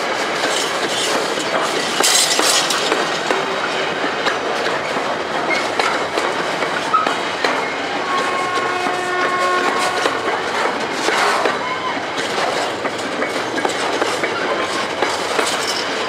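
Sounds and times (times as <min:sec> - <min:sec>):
freight train rumbling: 0:00.0 - 0:16.0
wheels clacking over rail joints: 0:00.0 - 0:16.0.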